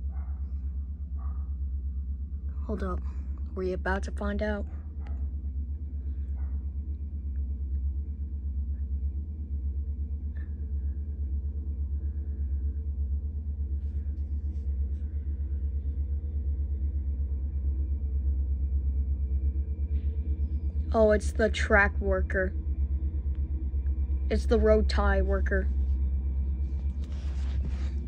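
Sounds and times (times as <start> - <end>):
rapid pulsing throb: 0.0 - 28.0.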